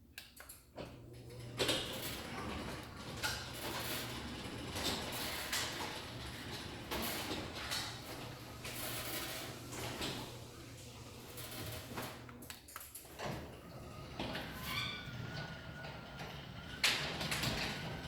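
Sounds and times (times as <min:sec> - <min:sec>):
garage door clacking and rattling: 0:00.8 - 0:18.0
garage door opener motor hum: 0:00.8 - 0:18.0.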